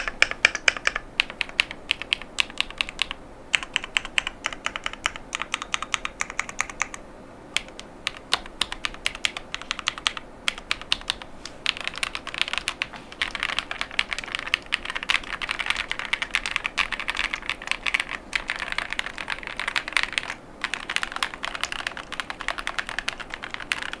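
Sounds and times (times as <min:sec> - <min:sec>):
fast mechanical keyboard typing: 0:00.0 - 0:07.0, 0:07.6 - 0:24.0.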